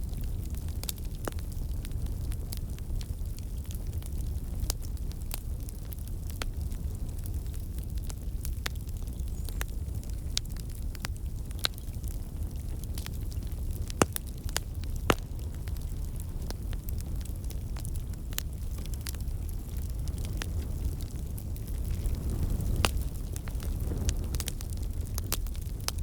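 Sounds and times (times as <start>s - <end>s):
wood fire pops and snaps: 0.0s - 26.0s.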